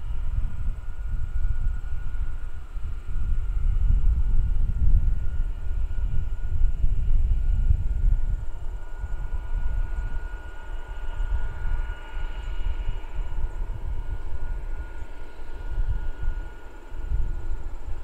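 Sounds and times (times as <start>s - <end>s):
jet engines whining: 0.0s - 18.0s
wind rumble on microphone: 0.0s - 18.0s.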